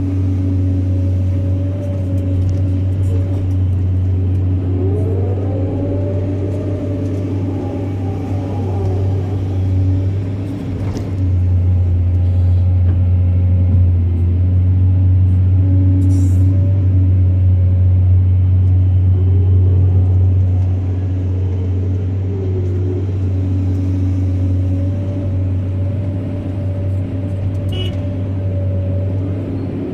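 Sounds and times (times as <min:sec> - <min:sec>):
diesel engine droning: 0:00.0 - 0:29.9.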